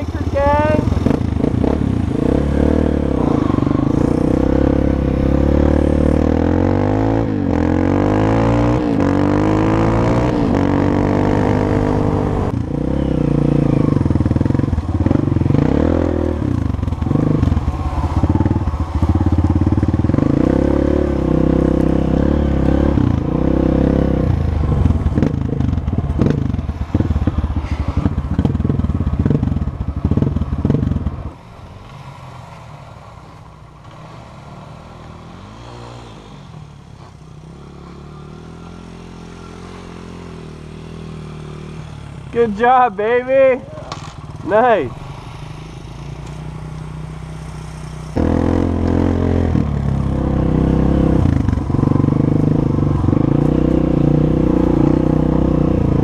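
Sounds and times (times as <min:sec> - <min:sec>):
dirt bike engine revving: 0:00.0 - 0:31.1, 0:37.4 - 0:56.0.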